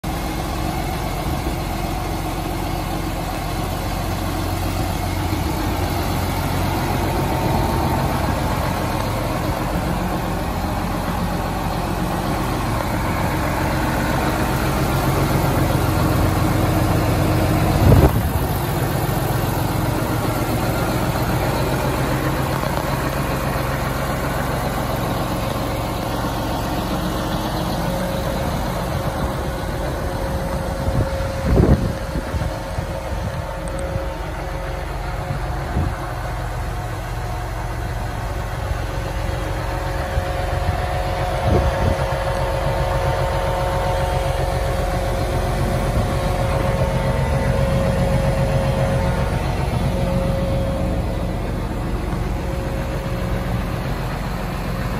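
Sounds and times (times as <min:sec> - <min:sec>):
tractor diesel engine idling: 0:00.0 - 0:54.9.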